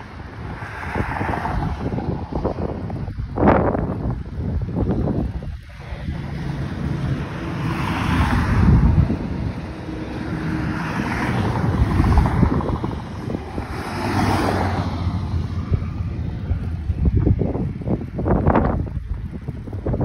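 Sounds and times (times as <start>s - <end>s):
cars whooshing past: 0.0s - 20.0s
wind rumbling on microphone: 0.0s - 20.0s.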